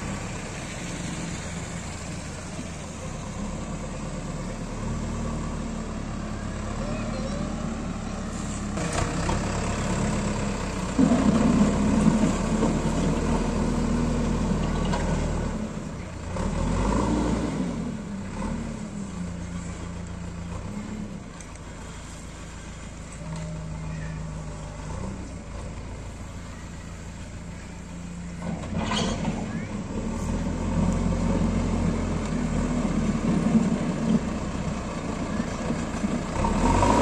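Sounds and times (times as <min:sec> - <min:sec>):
diesel engine revving: 0:00.0 - 0:37.0.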